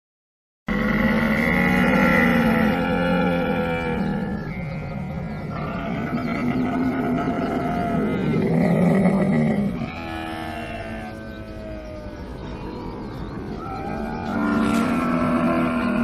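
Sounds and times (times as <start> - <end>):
camel bellowing: 0.7 - 12.3, 13.6 - 16.0.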